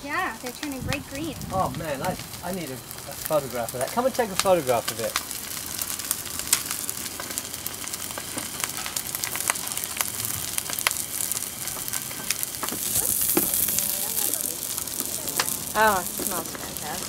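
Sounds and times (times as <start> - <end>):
pods sizzling in hot oil: 0.0 - 17.0
oil pops and crackles: 0.4 - 17.0.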